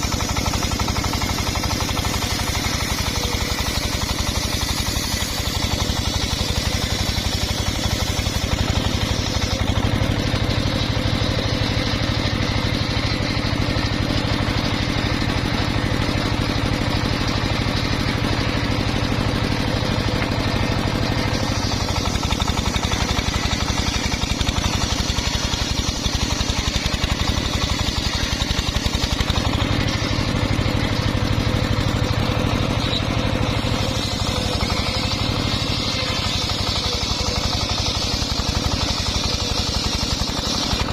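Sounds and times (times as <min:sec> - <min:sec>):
sawmill engine droning: 0:00.0 - 0:40.9.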